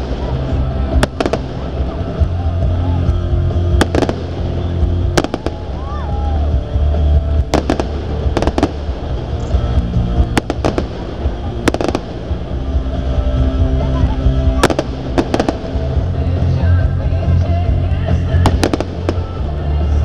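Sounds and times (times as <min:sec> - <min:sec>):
fireworks bursting with sharp bangs: 0:00.0 - 0:20.0
music with heavy bass: 0:00.0 - 0:20.0.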